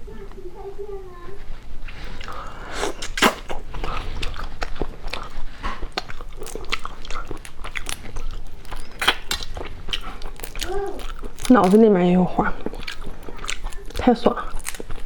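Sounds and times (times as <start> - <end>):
person chewing crunchy food: 1.9 - 15.0
wet mouth clicks: 2.2 - 15.0.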